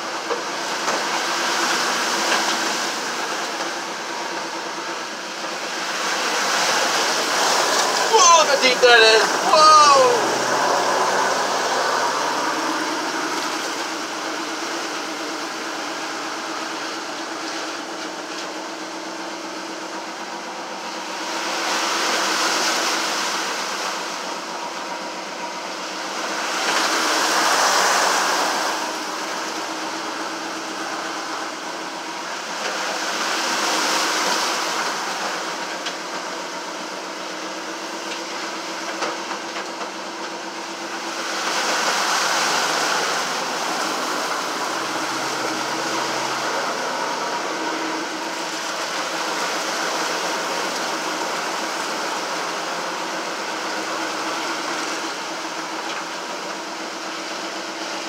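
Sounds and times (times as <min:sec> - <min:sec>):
vehicle engine running: 0:00.0 - 0:58.0
water splashing against vehicle: 0:00.0 - 0:58.0.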